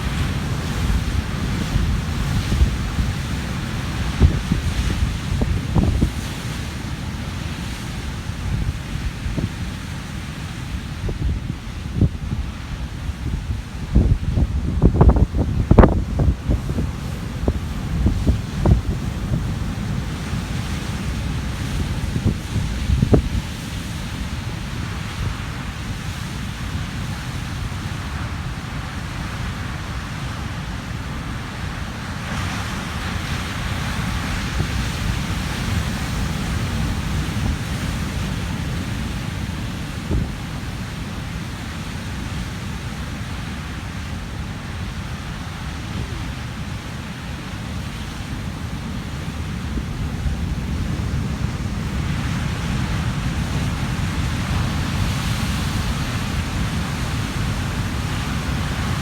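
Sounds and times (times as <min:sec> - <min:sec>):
surf breaking on rocky shore: 0:00.0 - 0:59.0
wind rumble on microphone: 0:00.0 - 0:59.0.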